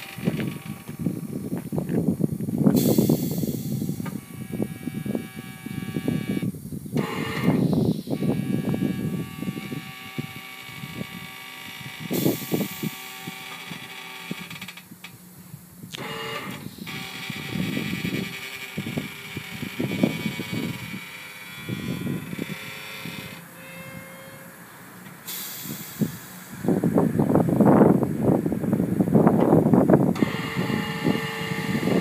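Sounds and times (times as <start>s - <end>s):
high hiss: 0.0s - 32.0s
mechanical hum: 0.0s - 32.0s.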